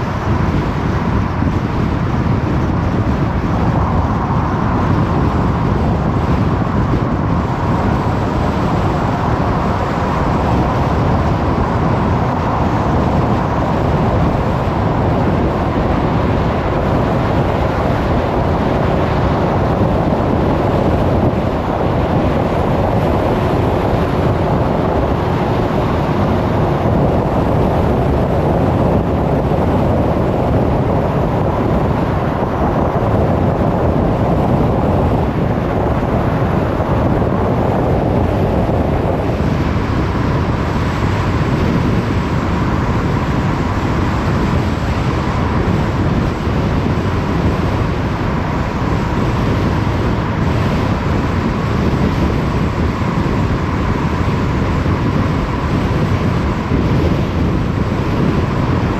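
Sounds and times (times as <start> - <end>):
tyres on road: 0.0 - 58.9
wind rushing past: 0.0 - 58.9.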